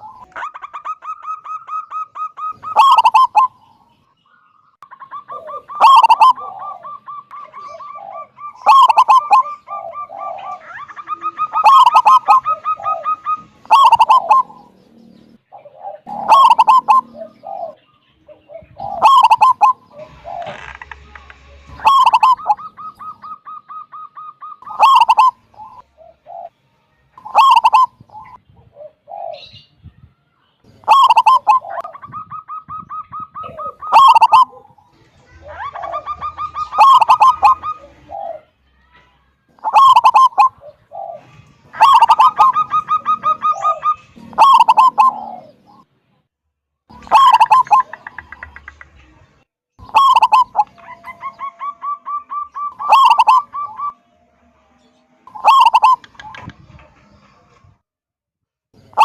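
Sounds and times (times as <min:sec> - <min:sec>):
dove cooing: 0:00.0 - 0:03.9, 0:04.8 - 0:20.8, 0:21.7 - 0:26.6, 0:27.2 - 0:29.7, 0:30.7 - 0:38.6, 0:39.6 - 0:45.8, 0:46.9 - 0:48.8, 0:49.8 - 0:54.0, 0:55.3 - 0:56.6.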